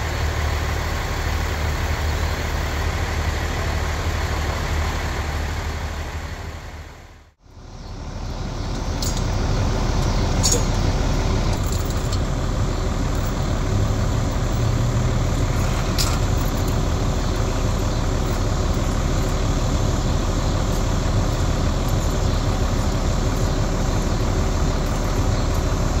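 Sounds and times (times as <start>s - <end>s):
large vehicle engine running: 0.0s - 26.0s.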